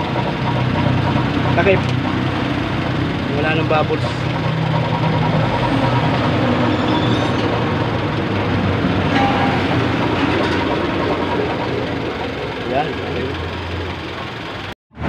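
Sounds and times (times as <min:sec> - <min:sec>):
car engine idling: 0:00.0 - 0:14.7
radiator cooling fan rushing: 0:00.0 - 0:14.7.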